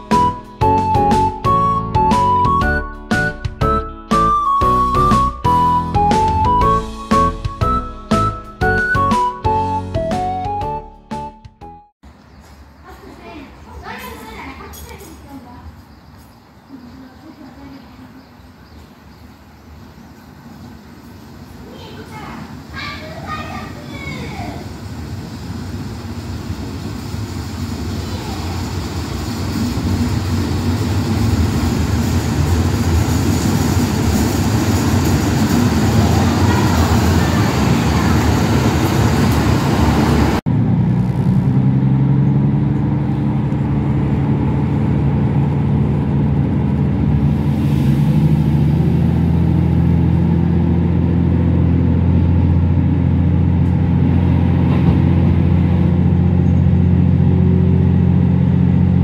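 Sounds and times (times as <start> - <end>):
diesel railcar engine: 0.0 - 11.2, 12.0 - 59.0.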